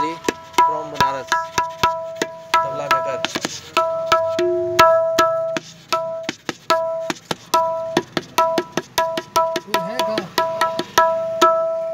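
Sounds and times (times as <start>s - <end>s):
tabla drum strokes: 0.0s - 11.9s.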